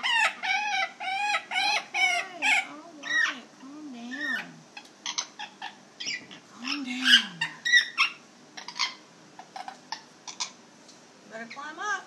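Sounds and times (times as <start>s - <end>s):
parrot chirps and squawks: 0.0s - 3.5s, 4.1s - 10.6s.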